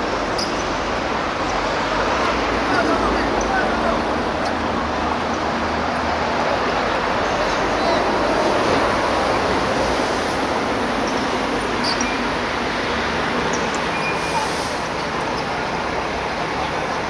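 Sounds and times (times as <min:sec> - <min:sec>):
outdoor rushing hiss and rumble: 0:00.0 - 0:17.0.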